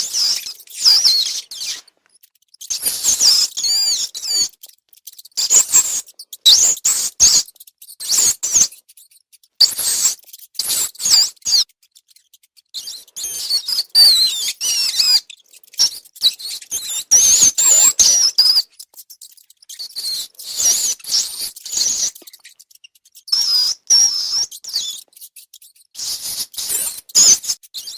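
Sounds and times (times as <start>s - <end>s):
rats squeaking: 0.0s - 27.9s.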